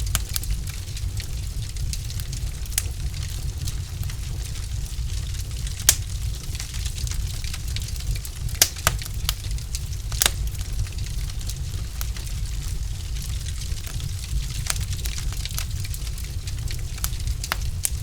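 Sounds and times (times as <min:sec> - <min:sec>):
fire pops and snaps: 0:00.0 - 0:18.0
low fire rumble: 0:00.0 - 0:18.0
wood fire crackling: 0:00.0 - 0:18.0.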